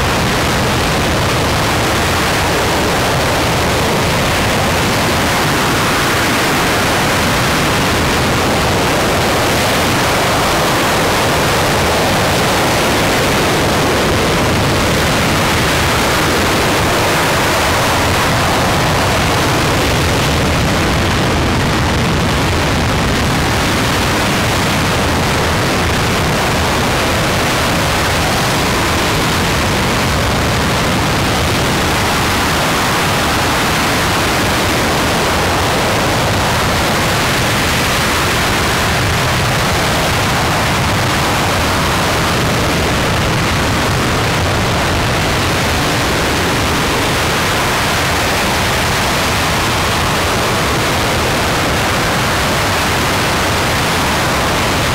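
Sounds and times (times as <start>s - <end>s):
rocket engine roaring: 0.0s - 54.9s.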